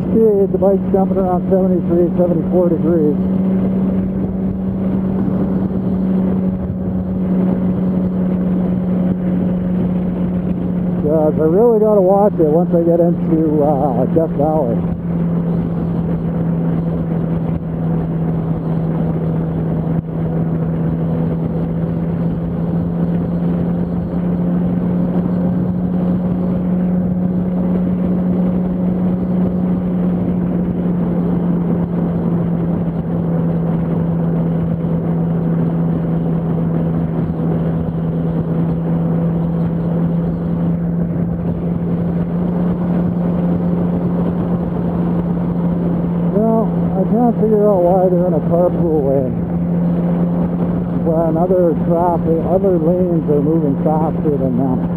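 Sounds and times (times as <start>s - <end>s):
motorcycle engine cruising: 0.0s - 54.9s
wind and road noise: 0.0s - 54.9s.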